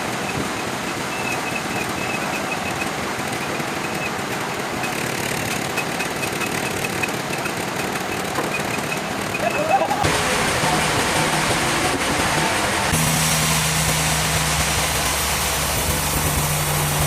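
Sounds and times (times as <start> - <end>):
sawmill machinery clattering: 0.0 - 17.0.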